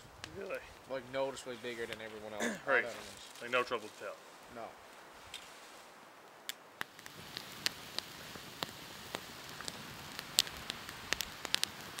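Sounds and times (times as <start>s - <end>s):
campfire crackling and popping: 0.0s - 5.5s, 6.2s - 12.0s.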